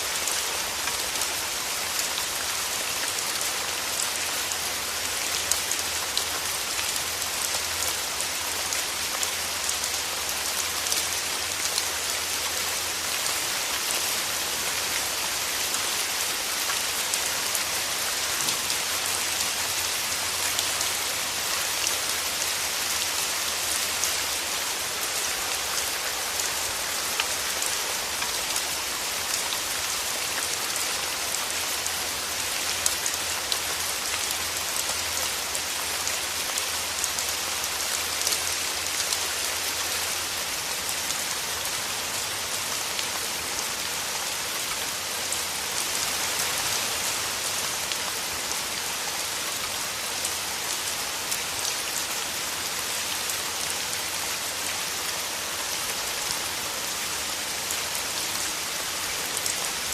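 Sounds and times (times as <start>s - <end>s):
rain on forest leaves: 0.0s - 59.9s.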